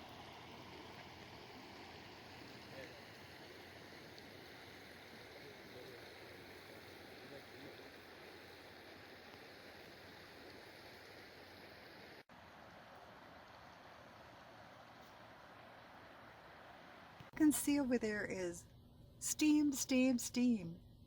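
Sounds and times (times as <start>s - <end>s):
faint flowing water: 0.0s - 21.0s.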